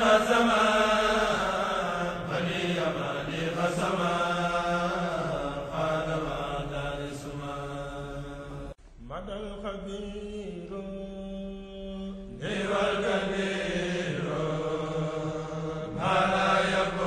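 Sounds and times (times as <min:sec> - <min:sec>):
voices chanting a religious poem: 0:00.0 - 0:17.0.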